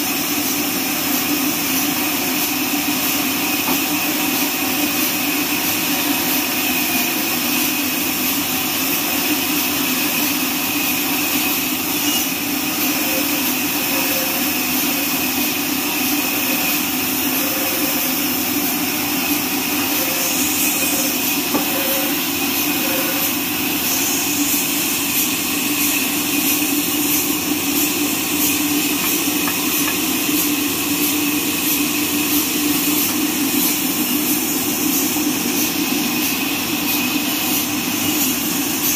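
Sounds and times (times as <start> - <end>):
band saw cutting log: 0.3 - 38.9.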